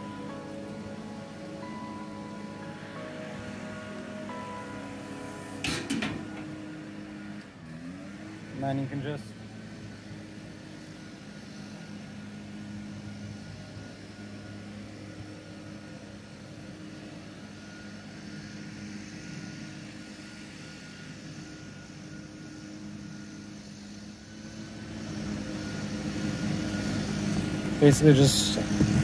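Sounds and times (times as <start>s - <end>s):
low mechanical drone: 0.0s - 29.0s.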